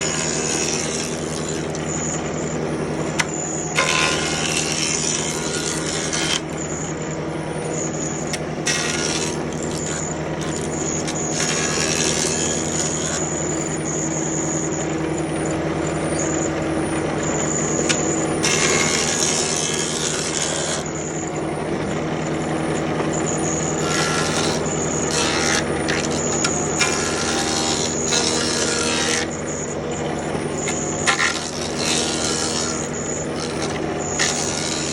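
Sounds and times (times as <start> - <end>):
power tool cutting wood: 0.0 - 34.9.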